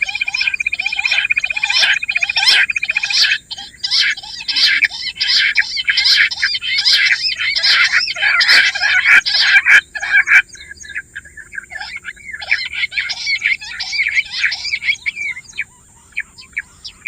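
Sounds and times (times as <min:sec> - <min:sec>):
quail chirping: 0:00.0 - 0:17.0.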